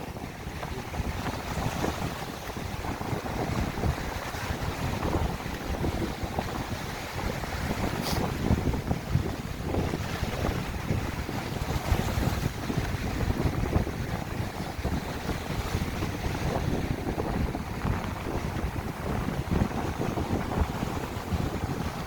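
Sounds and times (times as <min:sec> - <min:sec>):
sea waves washing on shore: 0:00.0 - 0:22.0
wind buffeting microphone: 0:00.0 - 0:22.0.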